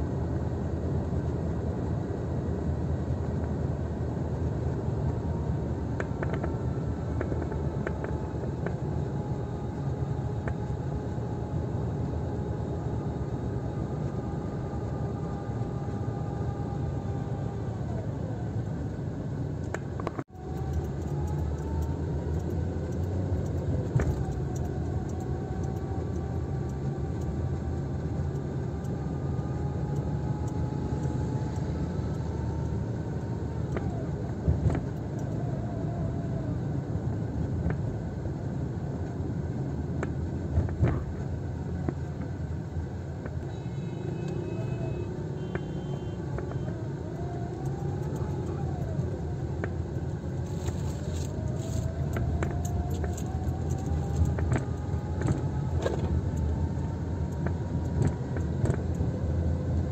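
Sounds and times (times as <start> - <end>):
engine and road rumble: 0.0 - 59.9
faint whine: 0.0 - 59.9.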